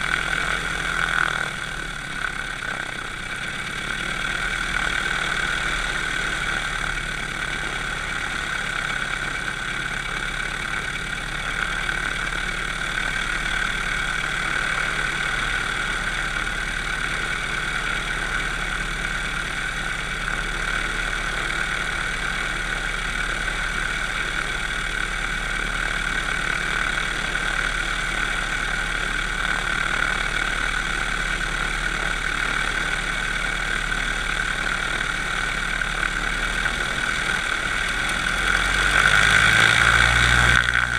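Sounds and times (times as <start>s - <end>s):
propeller aircraft engine idling: 0.0s - 40.9s.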